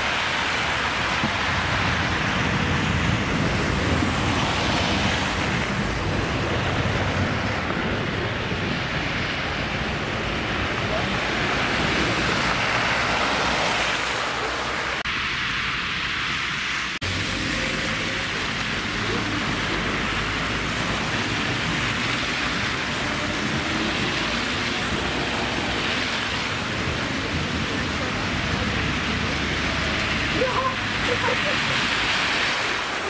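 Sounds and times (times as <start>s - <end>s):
tyres hissing through wet slush: 0.0s - 6.8s, 8.7s - 33.0s
tram passing: 0.0s - 33.0s.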